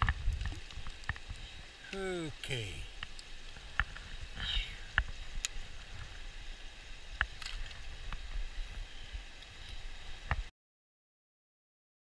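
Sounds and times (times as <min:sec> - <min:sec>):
stream rushing over gravel: 0:00.0 - 0:10.5.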